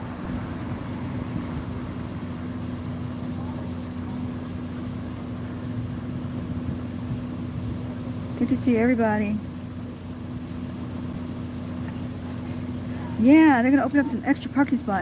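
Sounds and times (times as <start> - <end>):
tow truck engine idling: 0.0 - 15.0.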